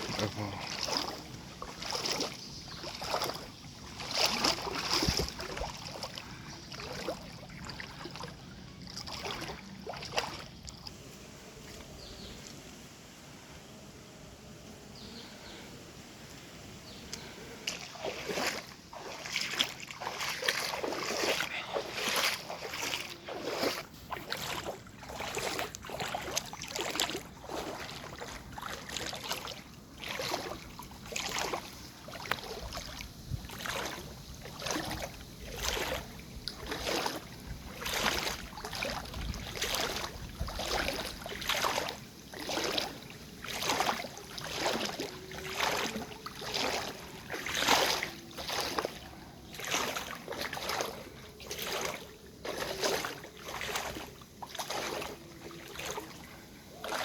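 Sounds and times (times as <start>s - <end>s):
water splashing and sloshing: 0.0s - 13.2s, 16.3s - 57.0s.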